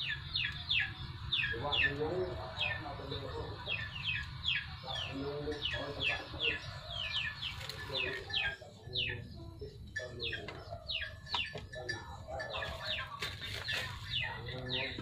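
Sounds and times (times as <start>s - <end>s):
chickens clucking: 0.0s - 15.0s
chicks peeping: 0.0s - 15.0s.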